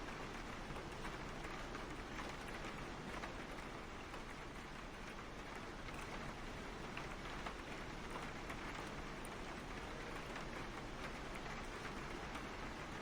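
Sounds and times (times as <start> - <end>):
rain falling on a car: 0.0 - 13.0.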